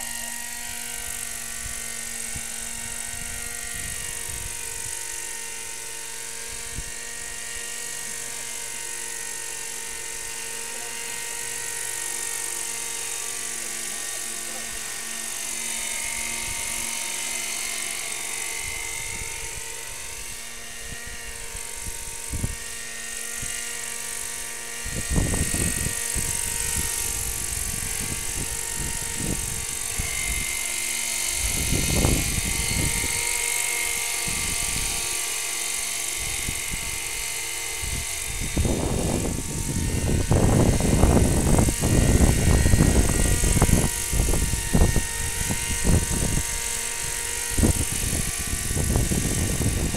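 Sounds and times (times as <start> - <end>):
model airplane engine whine: 0.0 - 49.9.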